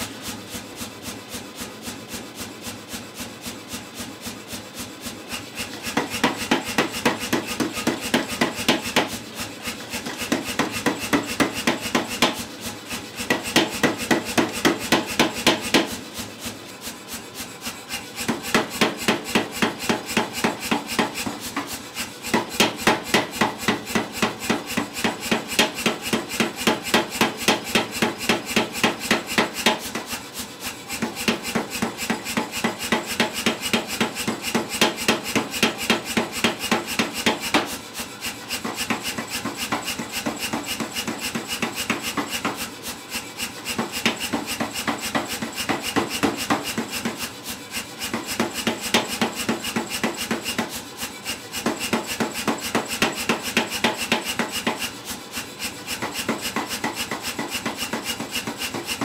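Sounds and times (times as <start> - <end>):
power hammer pounding hot steel: 0.0 - 59.0.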